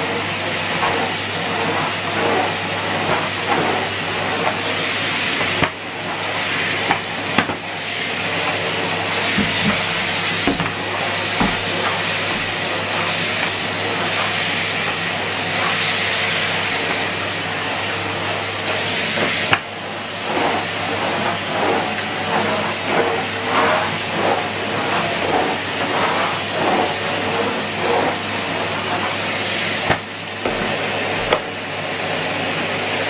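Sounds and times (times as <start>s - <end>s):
vacuum cleaner running on carpet: 0.0s - 33.0s.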